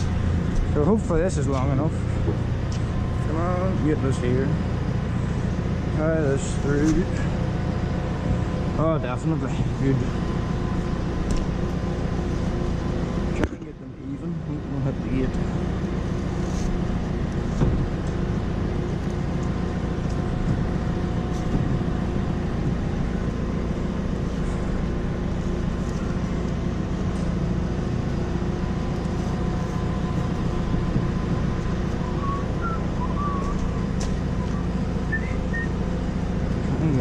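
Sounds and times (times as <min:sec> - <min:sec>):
diesel tractor engine idling: 0:00.0 - 0:37.0.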